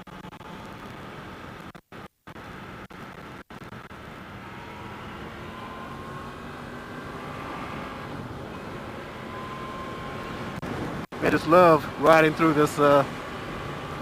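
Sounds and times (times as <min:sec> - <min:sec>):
motorcycle engine at road speed: 0:00.0 - 0:14.0.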